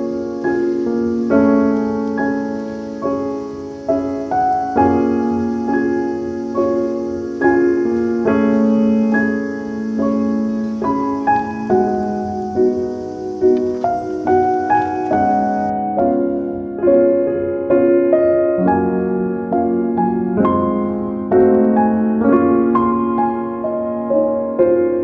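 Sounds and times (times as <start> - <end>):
slow piano melody: 0.0 - 25.0.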